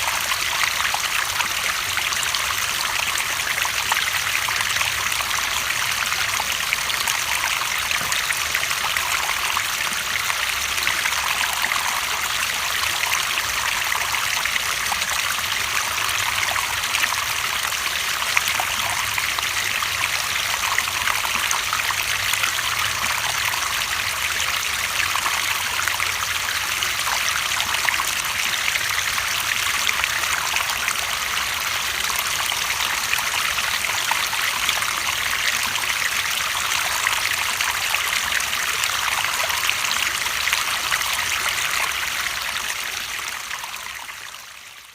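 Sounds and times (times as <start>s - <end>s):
stream trickling and splashing: 0.0s - 44.9s.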